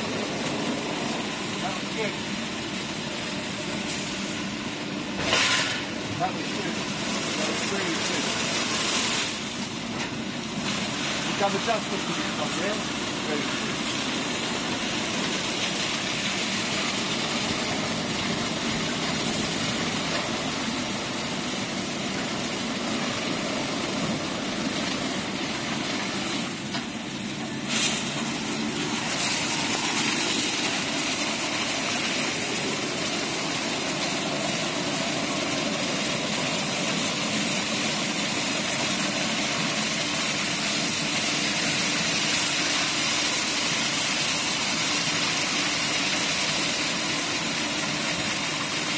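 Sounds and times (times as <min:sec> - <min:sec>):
water spraying: 0:00.0 - 0:48.9.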